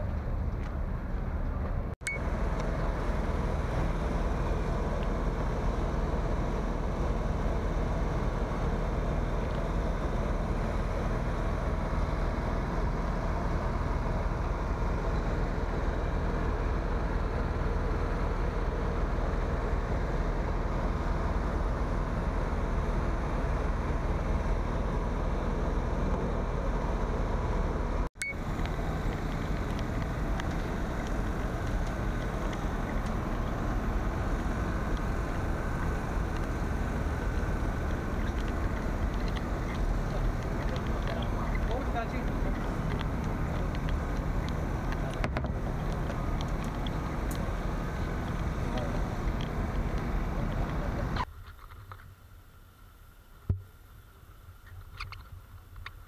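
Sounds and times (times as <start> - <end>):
outdoor background rumble: 0.0 - 56.0.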